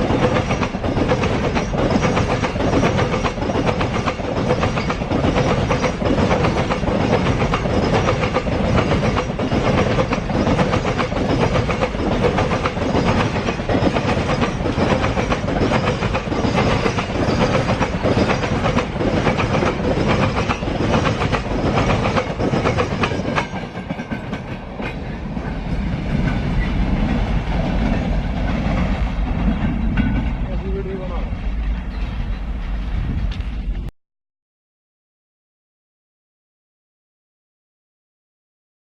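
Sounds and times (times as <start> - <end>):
deep train rumble: 0.0 - 33.9
train wheels clattering over rail joints: 0.0 - 33.9.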